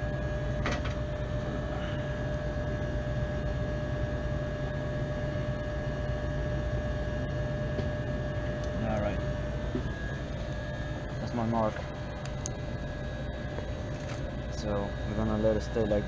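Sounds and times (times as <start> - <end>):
freezer unit droning: 0.0 - 16.0.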